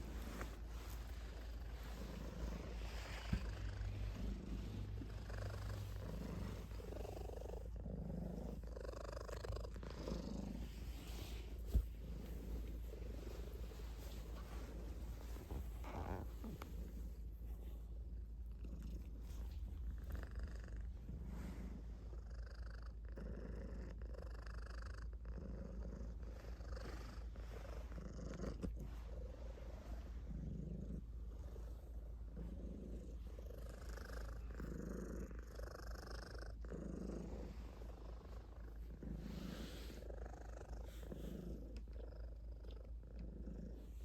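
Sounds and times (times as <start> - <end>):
cat purring: 0.0 - 44.0.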